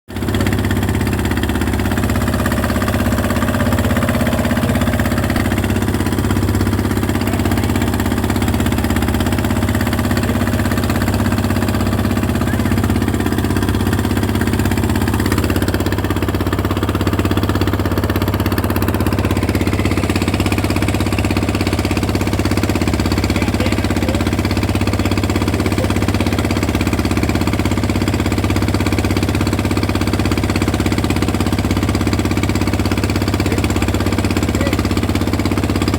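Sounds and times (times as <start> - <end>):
engine running steadily: 0.1 - 35.9.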